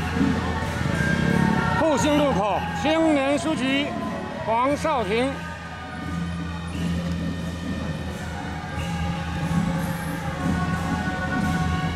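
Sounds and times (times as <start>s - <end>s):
procession music from horn loudspeaker: 0.0s - 11.9s.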